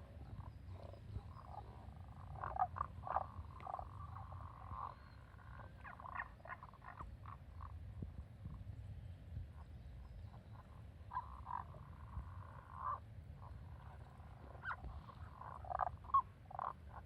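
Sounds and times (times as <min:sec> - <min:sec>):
frogs croaking: 0:00.0 - 0:07.9, 0:09.5 - 0:17.0.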